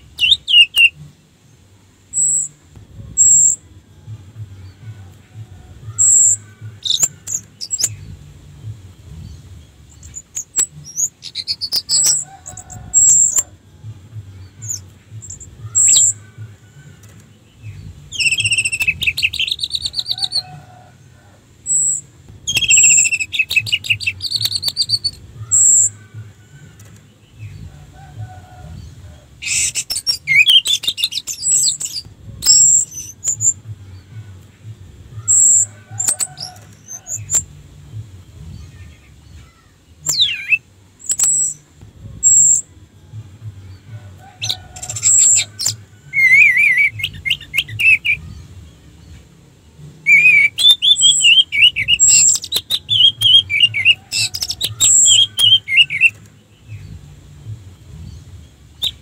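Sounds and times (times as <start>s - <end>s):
thrush singing: 0.0s - 59.0s.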